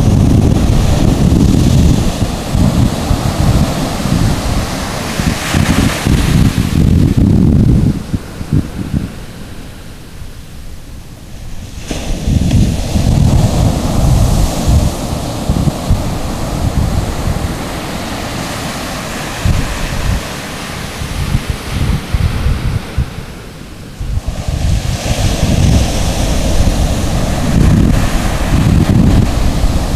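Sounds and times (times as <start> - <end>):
surf breaking on beach: 0.0 - 10.5, 11.3 - 29.9
wind buffeting microphone: 0.0 - 29.9.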